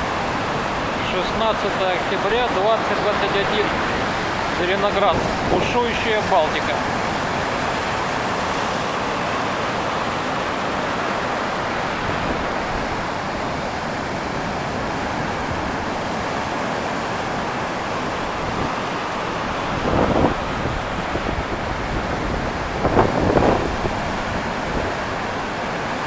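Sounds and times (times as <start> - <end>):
stormy surf waves breaking: 0.0 - 26.0.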